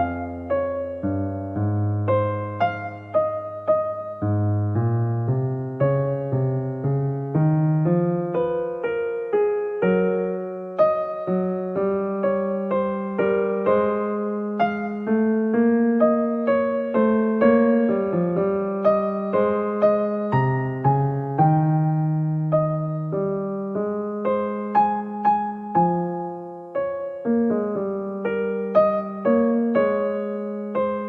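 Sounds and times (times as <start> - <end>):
gentle electric piano music: 0.0 - 31.0.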